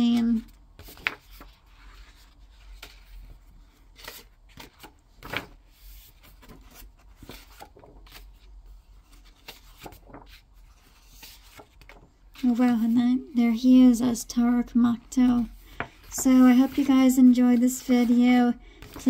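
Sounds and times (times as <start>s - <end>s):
book pages turning: 0.0s - 12.9s, 14.9s - 19.0s.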